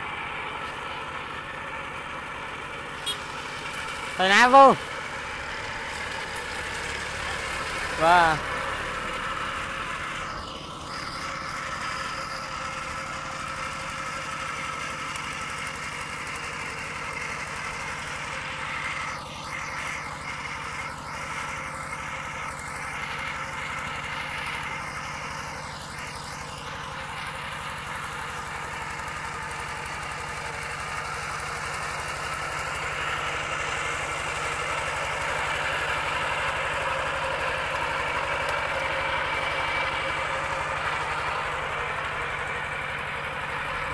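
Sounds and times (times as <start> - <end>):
diesel engine putter: 0.0 - 43.9.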